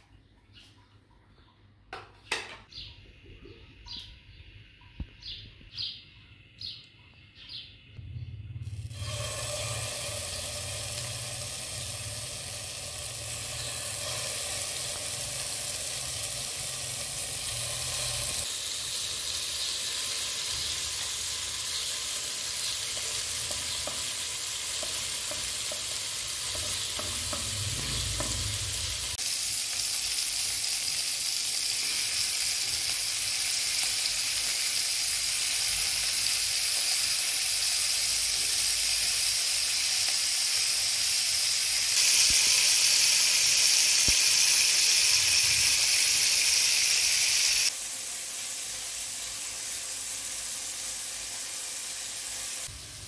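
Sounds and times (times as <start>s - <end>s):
skewers sizzling in hot oil: 8.6s - 53.0s.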